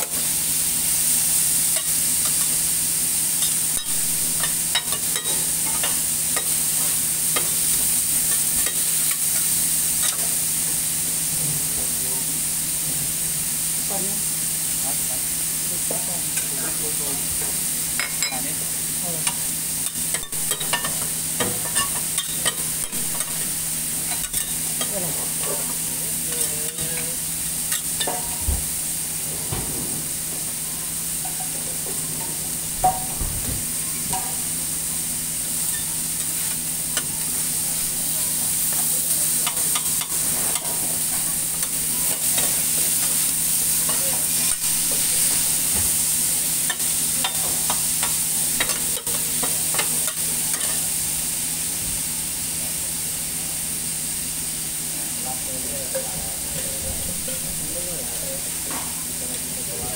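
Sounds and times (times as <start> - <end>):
meat sizzling on a griddle: 0.0 - 59.9.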